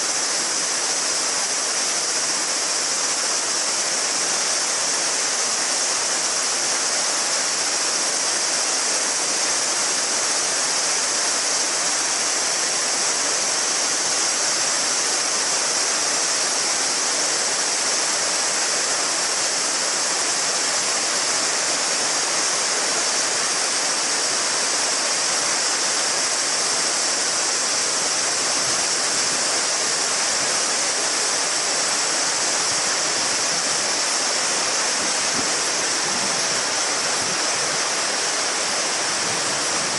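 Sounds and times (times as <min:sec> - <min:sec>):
cicadas buzzing: 0:00.0 - 0:39.9
river babbling over stones: 0:00.0 - 0:39.9.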